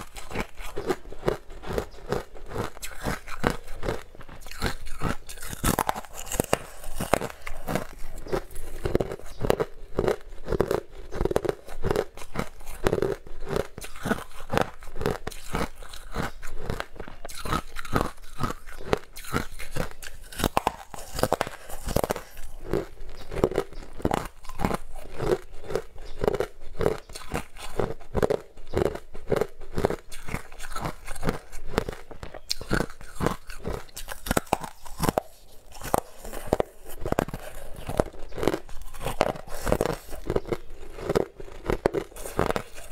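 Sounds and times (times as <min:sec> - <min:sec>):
teeth crunching frozen ice: 0:00.0 - 0:42.9.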